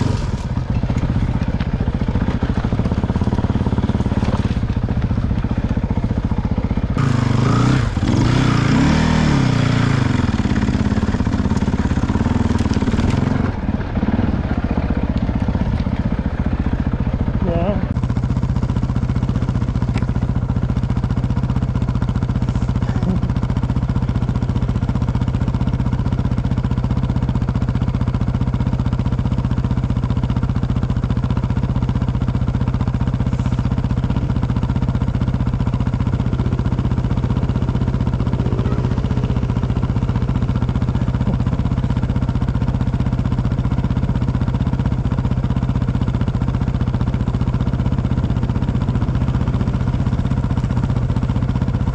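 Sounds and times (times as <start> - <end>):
motorbike engine running steadily: 0.0 - 51.9.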